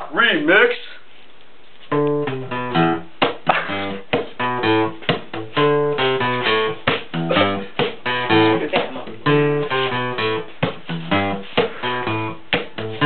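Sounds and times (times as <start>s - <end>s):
acoustic guitar strummed chords: 1.9s - 13.0s
percussive hits on guitar: 2.0s - 13.0s.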